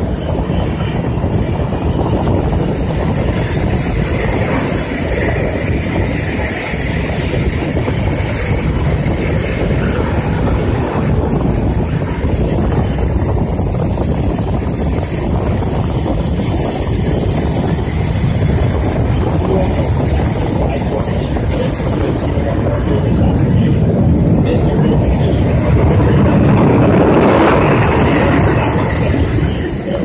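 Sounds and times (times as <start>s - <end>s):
jet engines roaring: 0.0s - 30.0s
wind buffeting microphone: 0.0s - 30.0s.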